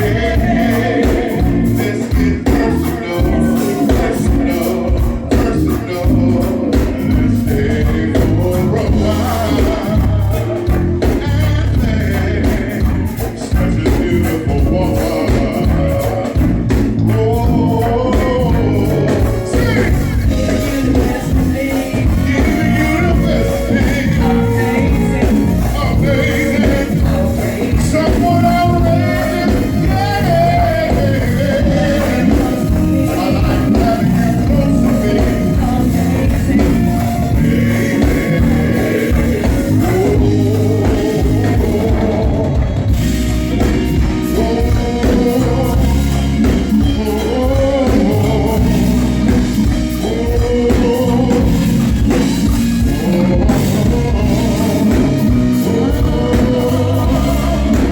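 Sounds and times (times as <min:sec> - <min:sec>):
band playing groove: 0:00.0 - 0:57.9
person singing: 0:00.0 - 0:57.9.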